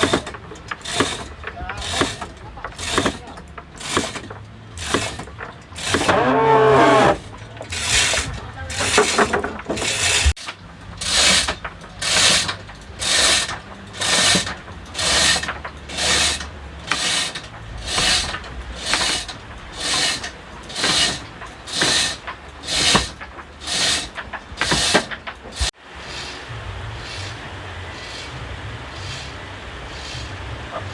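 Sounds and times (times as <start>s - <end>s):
hand winch ratcheting: 0.0s - 26.4s, 27.0s - 30.4s.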